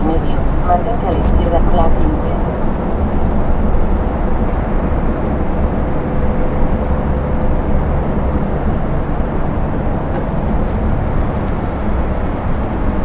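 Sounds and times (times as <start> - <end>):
truck engine drone: 0.0 - 13.0
tyre and road rumble: 0.0 - 13.0.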